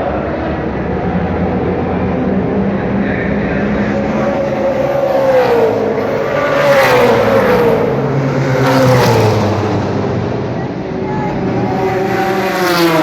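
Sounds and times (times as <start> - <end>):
racing car engines passing: 0.0 - 13.0.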